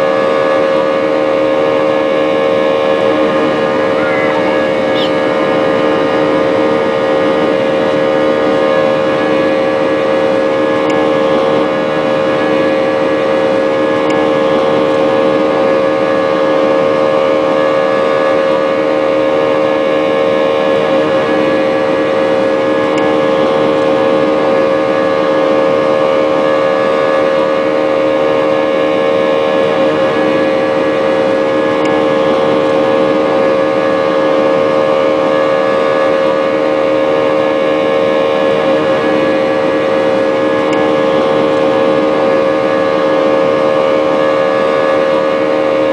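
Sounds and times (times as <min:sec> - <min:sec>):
jet engine drone in cabin: 0:00.0 - 0:45.9.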